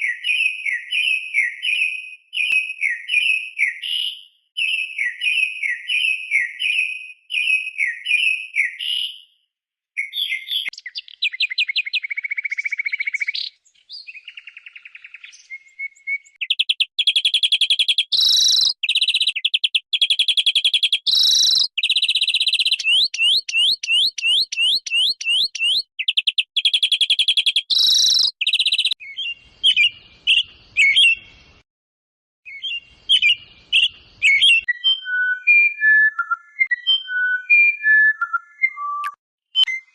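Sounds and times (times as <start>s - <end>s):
birds calling and singing: 0.0s - 9.4s, 10.0s - 31.6s, 32.5s - 39.9s.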